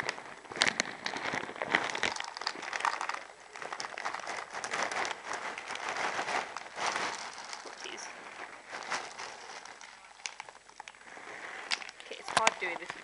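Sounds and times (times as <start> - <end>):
guinea pigs rustling in hay: 0.0 - 13.0.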